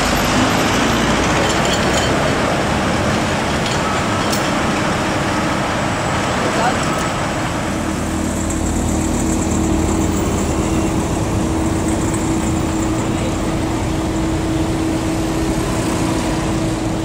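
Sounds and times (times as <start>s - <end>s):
cars passing by: 0.0s - 17.0s
heavy truck moving off: 0.0s - 17.0s.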